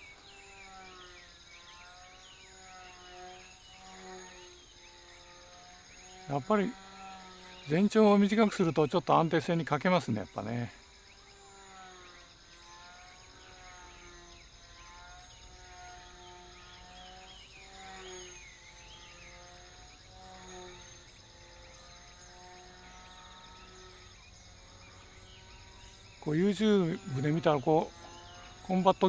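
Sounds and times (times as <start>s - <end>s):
small model plane motor: 0.0s - 29.0s.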